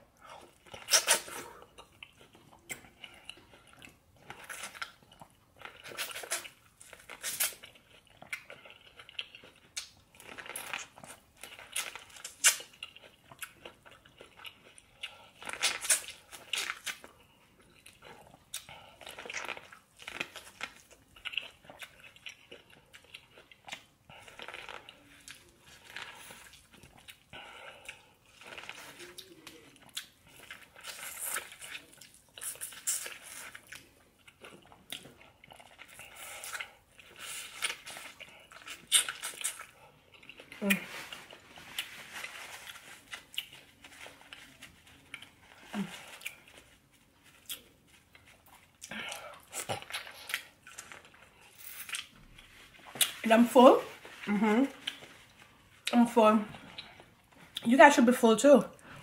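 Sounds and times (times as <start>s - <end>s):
crunchy chewing of corn on the cob: 0.2s - 53.2s.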